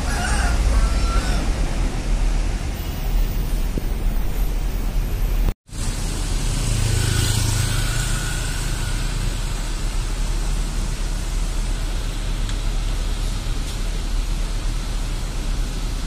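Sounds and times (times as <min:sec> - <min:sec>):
low engine hum: 0:00.0 - 0:16.0
traffic: 0:00.0 - 0:16.0.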